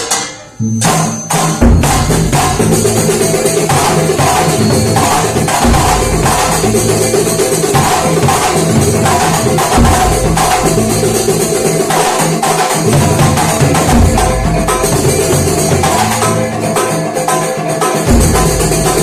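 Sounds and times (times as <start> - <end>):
frame drums beating: 0.0 - 19.0
held pitched tones: 0.4 - 17.2.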